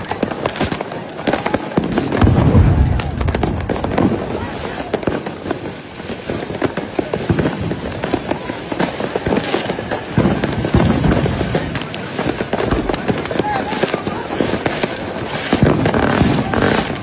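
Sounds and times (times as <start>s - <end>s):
firecrackers crackling: 0.0s - 17.0s
firework hiss: 0.0s - 17.0s
heavy firework bangs: 0.0s - 17.0s.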